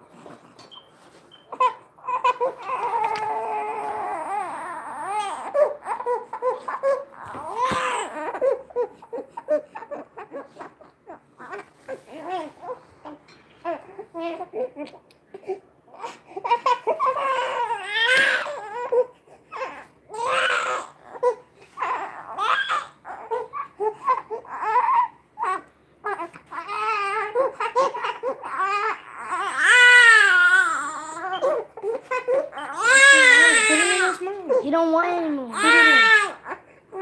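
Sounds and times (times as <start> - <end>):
newborn baby crying: 1.5 - 34.8, 35.5 - 37.0.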